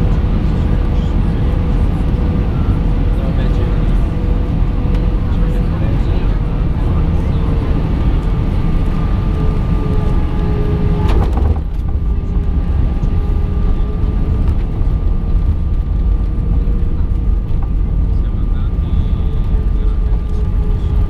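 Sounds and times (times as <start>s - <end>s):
airplane cabin rumble: 0.0s - 21.0s
faint engine tones: 0.0s - 21.0s.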